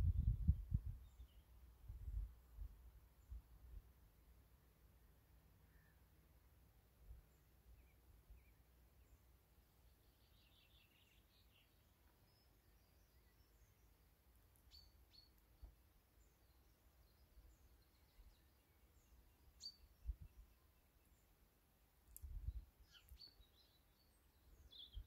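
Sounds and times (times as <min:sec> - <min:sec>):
faint bird chirps: 0:00.1 - 0:03.5, 0:04.6 - 0:06.3, 0:07.0 - 0:21.4, 0:22.0 - 0:25.0.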